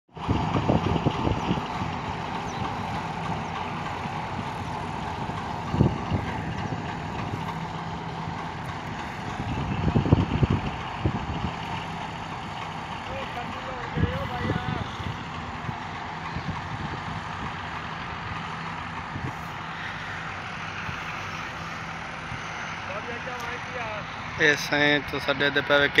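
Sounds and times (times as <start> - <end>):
tractor diesel engine running: 0.1 - 26.0
low bumps: 0.2 - 24.4.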